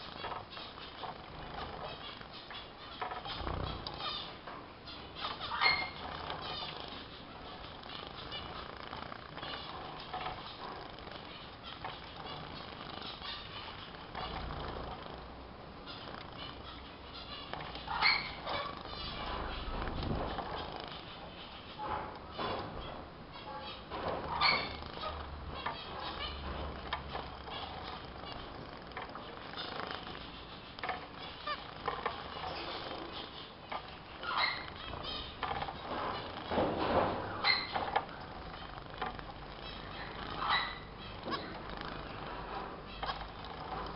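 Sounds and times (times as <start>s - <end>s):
finches chirping: 0.0s - 43.9s.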